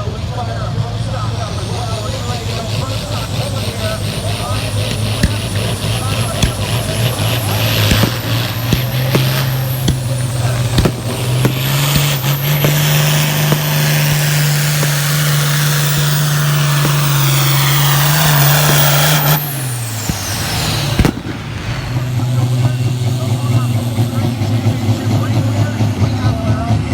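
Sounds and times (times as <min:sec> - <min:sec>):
tractor diesel engine under load: 0:00.0 - 0:26.9
high whistle winding down: 0:00.3 - 0:25.8.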